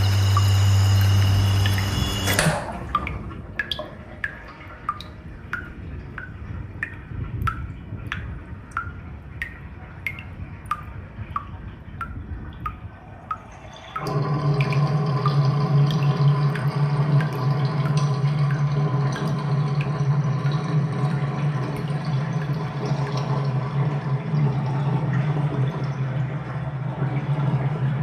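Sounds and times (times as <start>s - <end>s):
water drops plinking: 0.0s - 23.3s.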